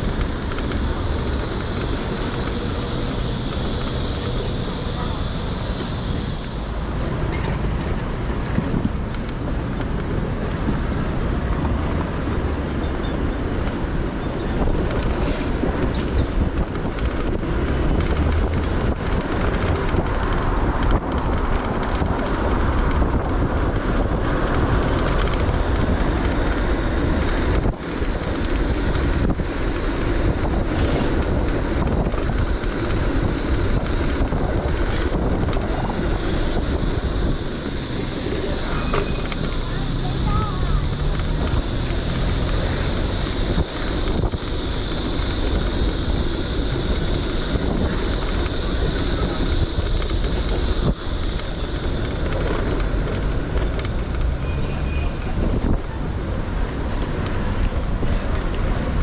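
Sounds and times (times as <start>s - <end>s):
road and traffic noise: 0.0s - 59.0s
wind noise on microphone: 0.0s - 59.0s.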